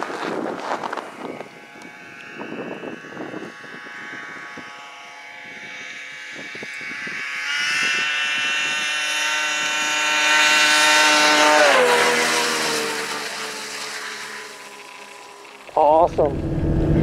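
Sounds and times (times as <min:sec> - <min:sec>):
snowmobile engine approaching: 0:00.0 - 0:17.0.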